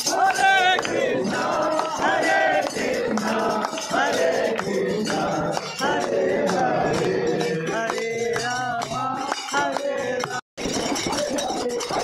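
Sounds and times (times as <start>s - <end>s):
hand clapping: 0.0s - 10.4s
dholak drum: 0.0s - 12.0s
group devotional singing: 0.0s - 12.0s.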